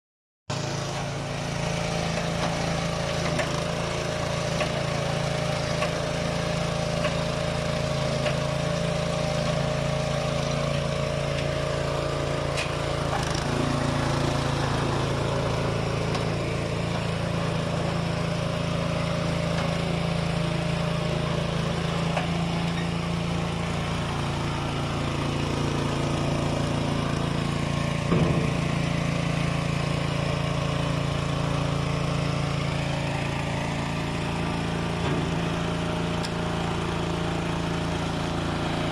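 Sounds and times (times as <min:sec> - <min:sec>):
electric motor humming: 0:00.6 - 0:38.9.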